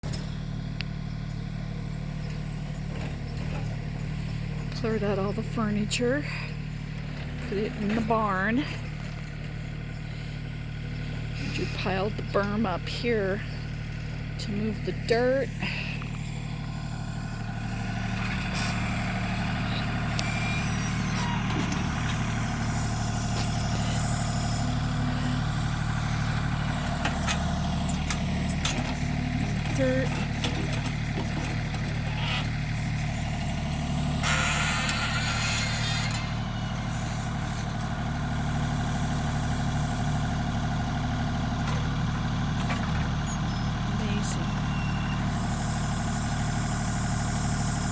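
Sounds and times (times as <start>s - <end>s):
heavy machine engine running: 0.0s - 47.9s.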